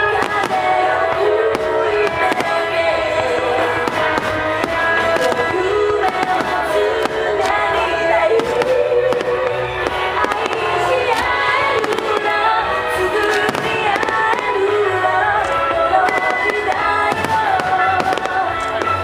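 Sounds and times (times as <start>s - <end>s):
fireworks bursting: 0.0s - 19.0s
loud music with bending melody: 0.0s - 19.0s.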